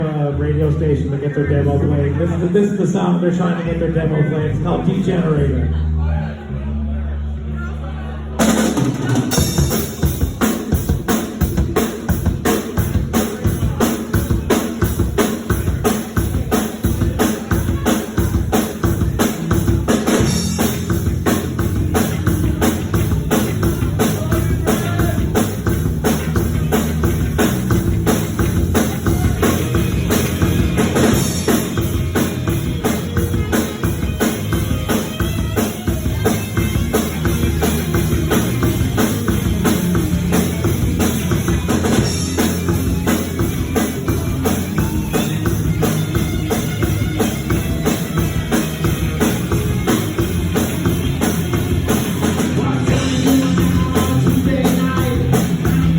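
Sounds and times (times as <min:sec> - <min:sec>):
band song with drums: 0:08.4 - 0:55.9.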